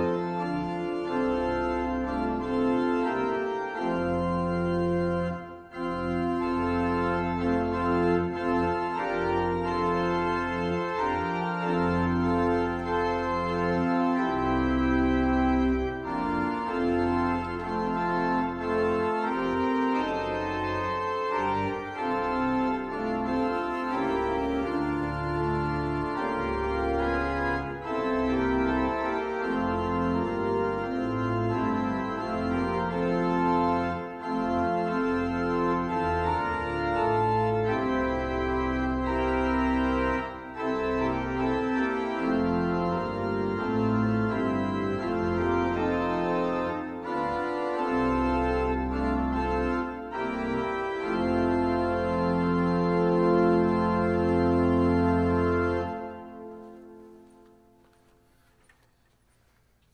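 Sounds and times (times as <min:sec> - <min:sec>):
organ playing a hymn: 0:00.0 - 0:59.9.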